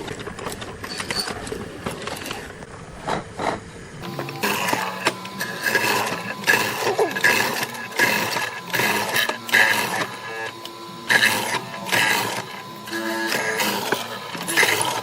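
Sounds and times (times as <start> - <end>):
woodworking strokes: 0.0 - 15.0.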